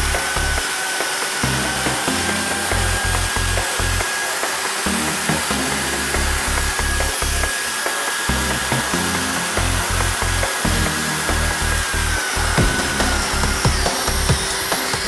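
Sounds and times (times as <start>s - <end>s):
background music with bass beat: 0.0s - 0.7s, 1.4s - 7.6s, 8.2s - 15.0s
concrete saw motor whine: 0.0s - 15.0s.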